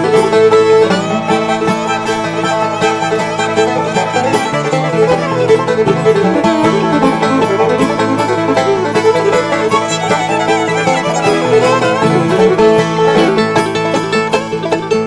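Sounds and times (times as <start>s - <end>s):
banjo plucked quickly: 0.0s - 15.0s
fiddle: 0.0s - 15.0s.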